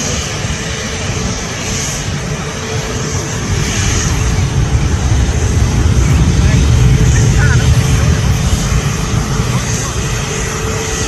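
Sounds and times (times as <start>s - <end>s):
jet airliner engines rumbling: 0.0s - 11.0s.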